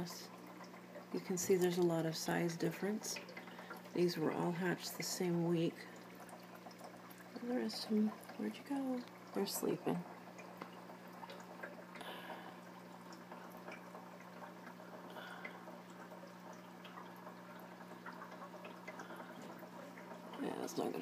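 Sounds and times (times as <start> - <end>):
aquarium water bubbling: 0.0 - 21.0
small water drips: 0.0 - 21.0.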